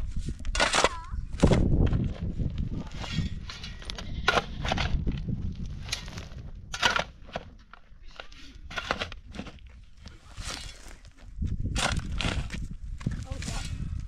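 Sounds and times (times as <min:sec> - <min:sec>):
shovel scraping stony soil: 0:00.0 - 0:02.0, 0:02.7 - 0:14.0
dirt and stones thrown: 0:00.5 - 0:13.7.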